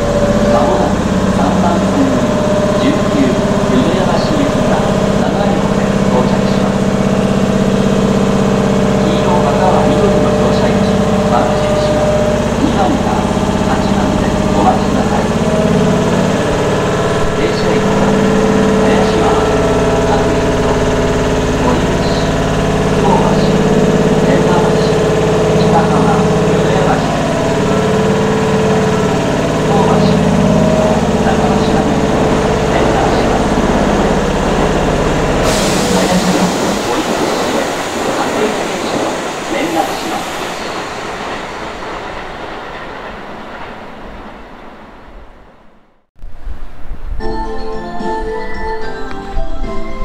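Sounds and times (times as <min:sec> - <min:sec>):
train air compressor humming: 0:00.0 - 0:43.1.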